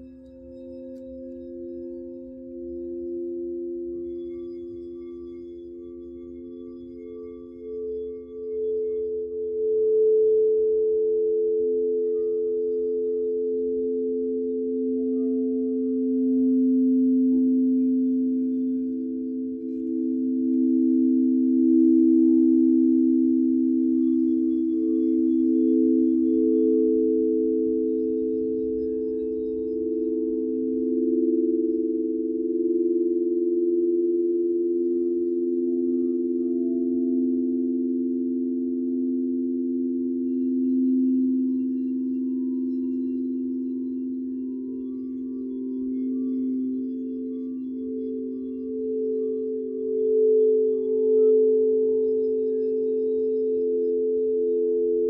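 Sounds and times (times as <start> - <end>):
crystal singing bowls ringing: 0.0 - 55.0.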